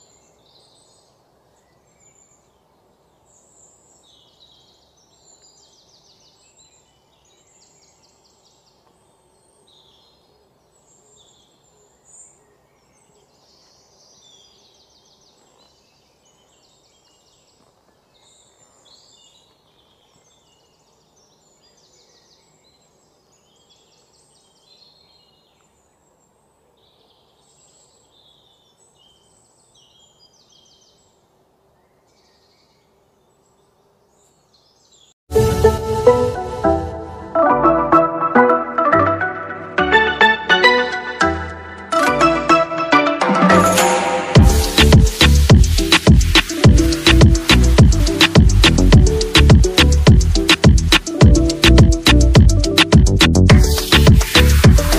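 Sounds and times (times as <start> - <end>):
birds chirping and trilling: 0.0 - 35.2, 36.5 - 54.9.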